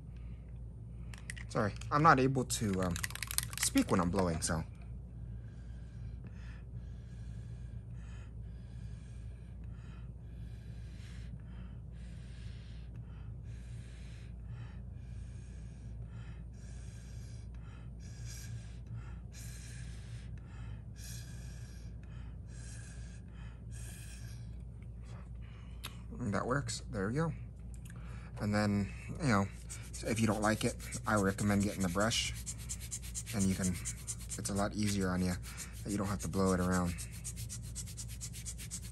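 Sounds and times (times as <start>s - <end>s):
person breathing: 5.2s - 26.1s, 27.4s - 38.9s.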